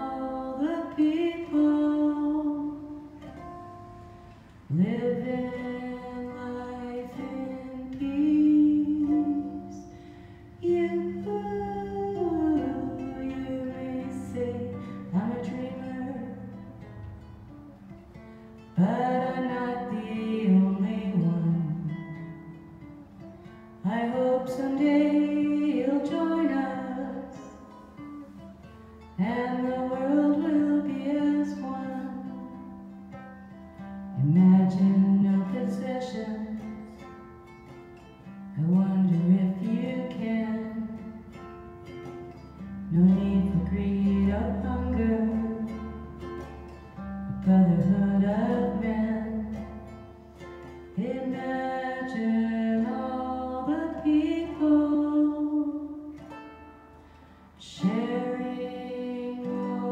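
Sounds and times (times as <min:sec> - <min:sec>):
woman singing: 0:00.0 - 0:04.0, 0:04.6 - 0:18.0, 0:18.6 - 0:28.4, 0:29.0 - 0:56.7, 0:57.6 - 0:59.9
ukulele strumming: 0:00.0 - 0:59.9.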